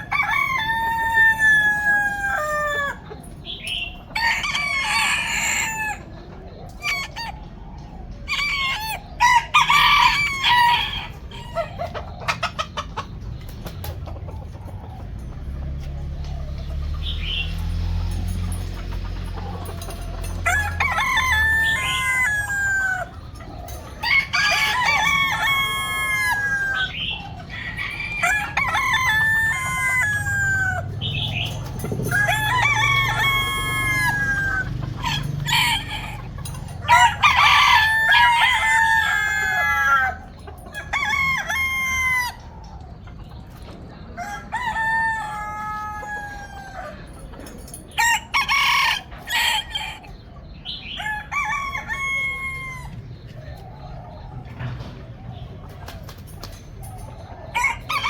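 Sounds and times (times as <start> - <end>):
roosters crowing: 0.0 - 58.0.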